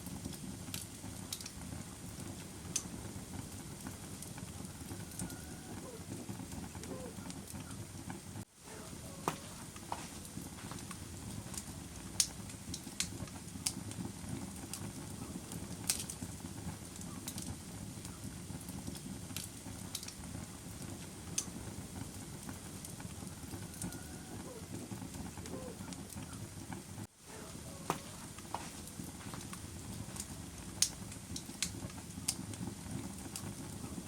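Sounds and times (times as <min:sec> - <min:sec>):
burning wood popping and snapping: 0:00.0 - 0:26.8, 0:27.4 - 0:34.0
campfire flames rumbling: 0:00.0 - 0:34.0.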